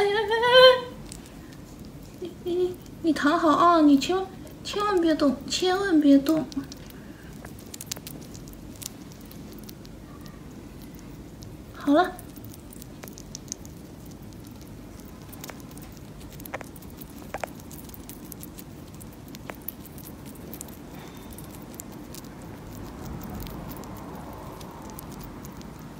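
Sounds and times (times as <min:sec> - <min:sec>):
steady low background noise: 0:00.0 - 0:25.9
animal chewing with crunching clicks: 0:01.0 - 0:03.0, 0:06.1 - 0:25.9.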